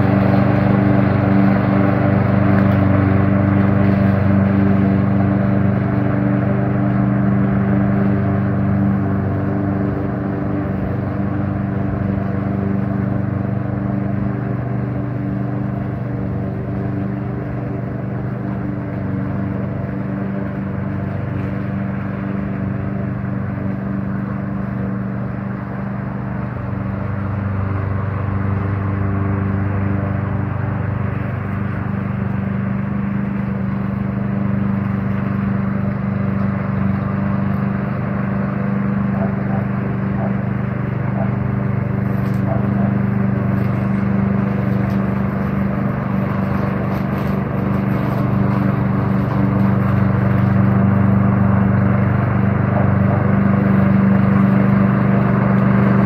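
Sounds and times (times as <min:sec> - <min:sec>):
lawn mower engine humming: 0:00.0 - 0:56.0.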